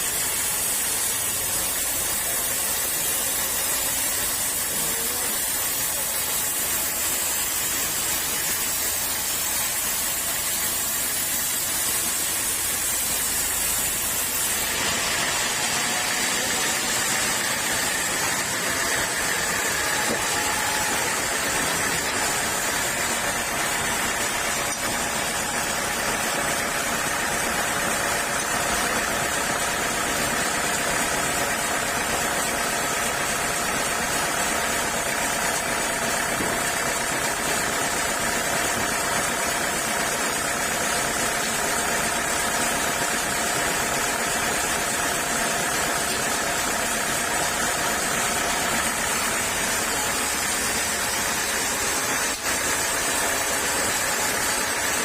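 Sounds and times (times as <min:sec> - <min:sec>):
sawmill saw machinery running: 0:00.0 - 0:55.0.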